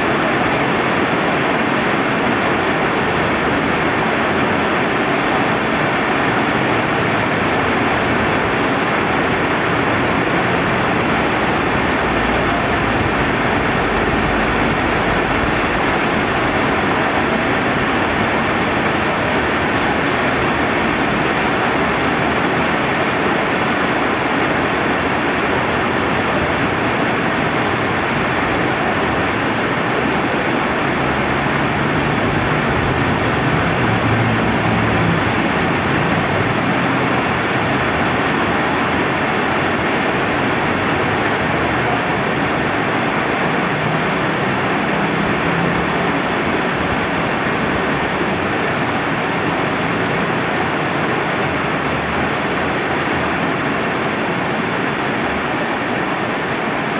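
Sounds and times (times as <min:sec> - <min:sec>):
flowing river: 0:00.0 - 0:56.9
steady rain: 0:00.0 - 0:56.9.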